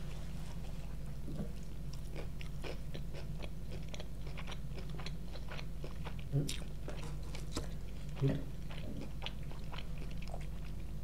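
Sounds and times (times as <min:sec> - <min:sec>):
steady low hum: 0:00.0 - 0:11.0
crunchy chewing of fried chicken: 0:00.5 - 0:11.0.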